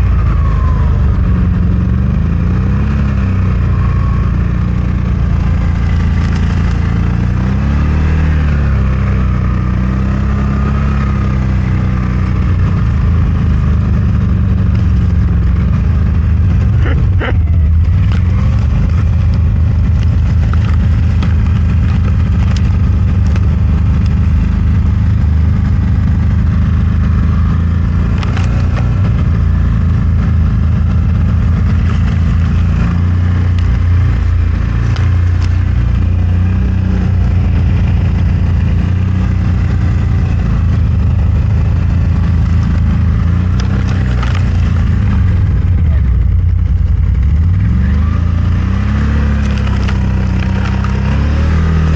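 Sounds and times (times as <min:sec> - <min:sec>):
vehicle engine revving: 0:00.0 - 0:51.9.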